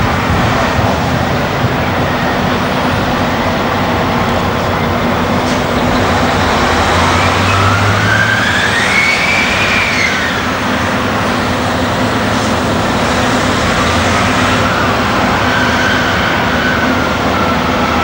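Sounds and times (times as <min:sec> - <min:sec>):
heavy diesel machinery engine: 0:00.0 - 0:18.0.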